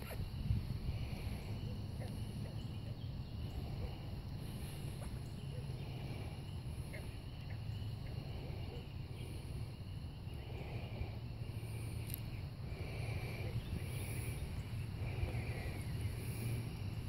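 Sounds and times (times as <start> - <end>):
constant low hum: 0.0 - 17.0
crickets and insects chirping: 0.0 - 17.0.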